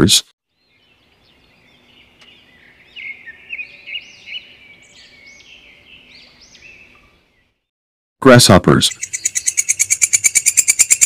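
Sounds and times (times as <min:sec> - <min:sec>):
bird chirps and twitters: 0:00.6 - 0:07.6, 0:08.8 - 0:11.0.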